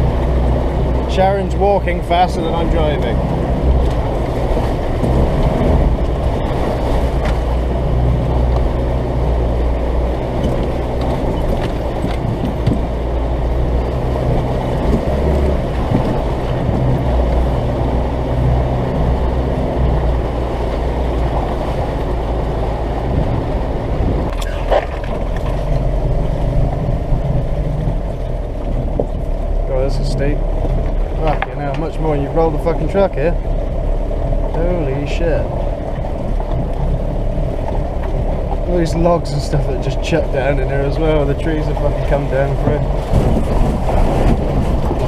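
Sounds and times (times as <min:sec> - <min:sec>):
truck engine labouring: 0:00.0 - 0:45.0.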